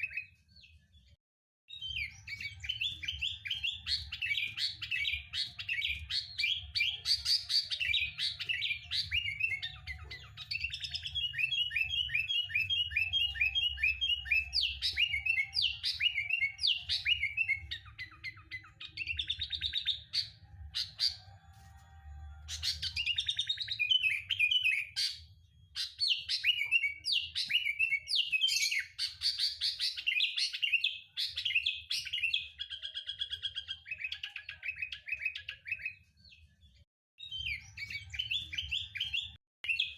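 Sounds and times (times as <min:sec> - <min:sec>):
bird chirping and whistling: 0:00.0 - 0:00.4, 0:01.7 - 0:21.4, 0:22.4 - 0:36.4, 0:37.2 - 0:39.9.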